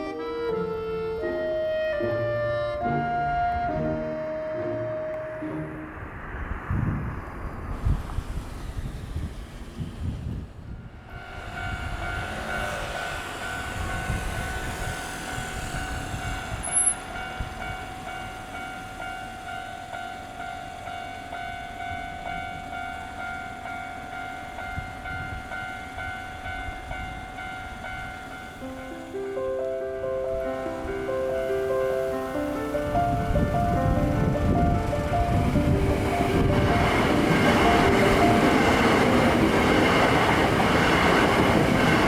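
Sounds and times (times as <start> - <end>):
low train rumble: 0.0 - 42.0.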